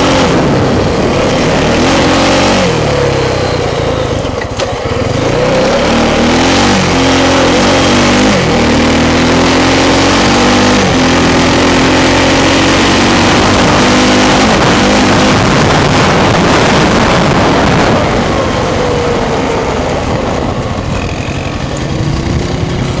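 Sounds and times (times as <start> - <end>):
wind noise on microphone: 0.0 - 4.4, 5.0 - 23.0
engine running under throttle: 0.0 - 23.0.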